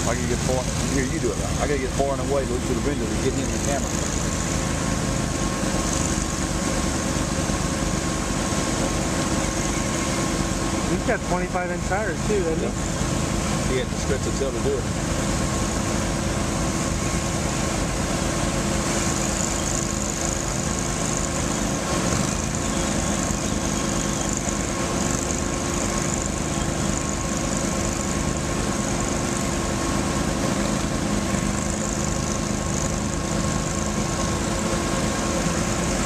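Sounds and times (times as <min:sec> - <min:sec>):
small engines running: 0:00.0 - 0:36.0
vehicles wading through water: 0:00.0 - 0:36.0.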